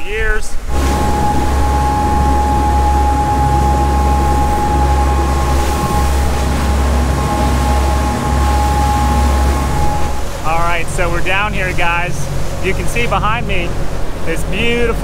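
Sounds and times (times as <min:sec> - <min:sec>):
water rushing along hull: 0:00.0 - 0:15.0
boat engine drone: 0:00.6 - 0:15.0
engine whine: 0:00.6 - 0:15.0.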